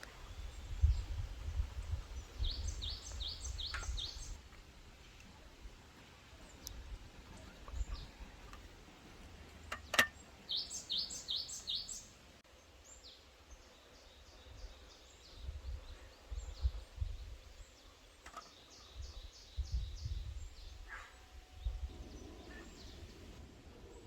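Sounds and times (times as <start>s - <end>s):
songbirds singing: 0.0s - 4.5s, 5.1s - 24.0s.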